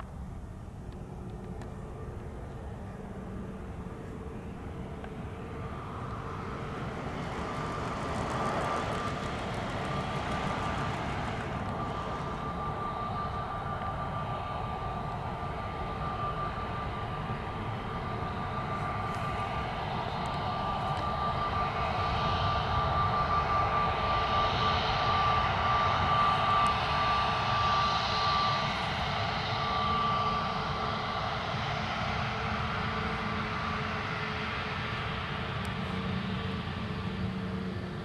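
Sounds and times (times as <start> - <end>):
jet engines rumbling and whining: 0.0 - 38.0.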